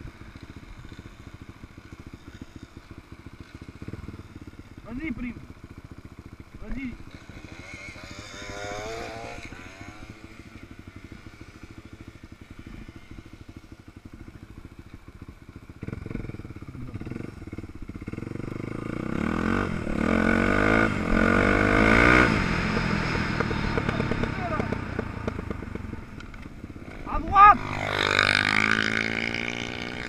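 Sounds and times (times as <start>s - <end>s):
dirt bike engine revving: 0.3s - 30.0s.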